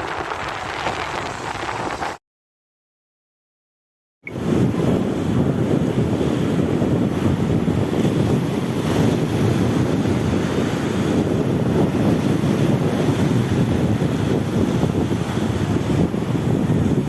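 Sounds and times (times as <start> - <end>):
sea surf: 0.0 - 2.2, 4.3 - 17.0
wind buffeting microphone: 0.0 - 2.2, 4.3 - 17.0.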